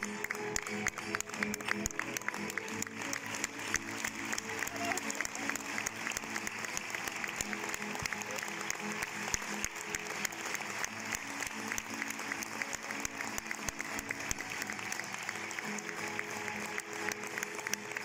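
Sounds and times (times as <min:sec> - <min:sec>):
audience applause: 0:00.0 - 0:18.0.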